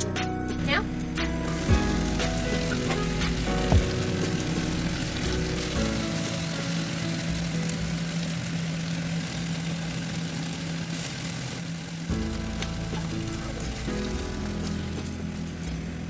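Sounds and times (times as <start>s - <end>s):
background music: 0.0s - 9.8s, 12.0s - 16.0s
food sizzling in a pan: 0.6s - 16.0s.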